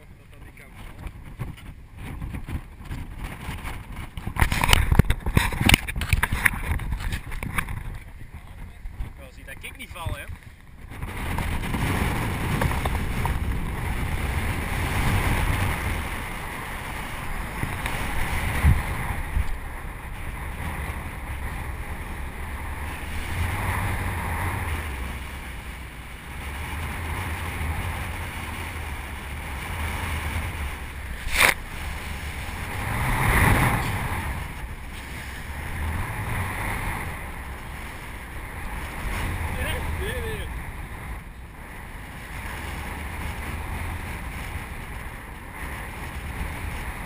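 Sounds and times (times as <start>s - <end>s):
rough sea rushing past boat: 0.0s - 47.0s
wind buffeting microphone: 0.0s - 47.0s.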